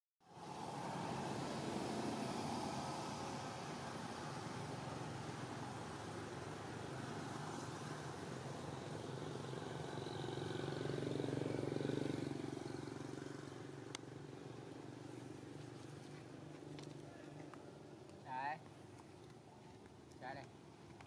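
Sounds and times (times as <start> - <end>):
faint vehicle passing: 0.2 - 21.0
outdoor background hum: 0.2 - 21.0.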